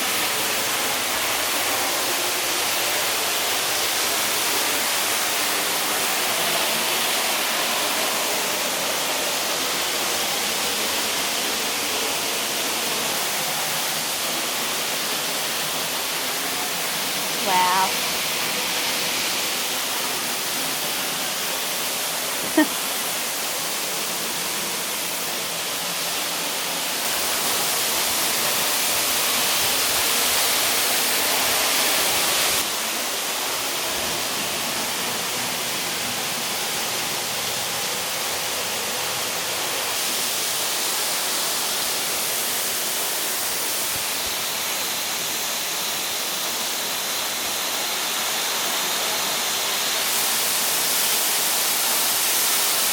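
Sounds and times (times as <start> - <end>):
waterfall crashing: 0.0 - 52.9.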